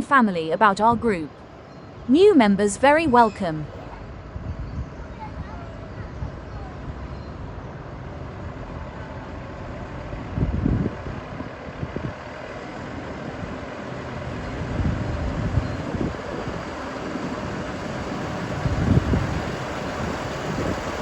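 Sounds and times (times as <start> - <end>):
tractors and lorries driving past: 0.0 - 21.0.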